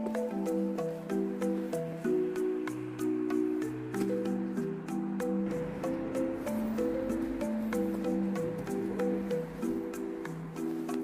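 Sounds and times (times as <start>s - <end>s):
held music chords: 0.0s - 11.0s
light clicking beat: 0.0s - 11.0s.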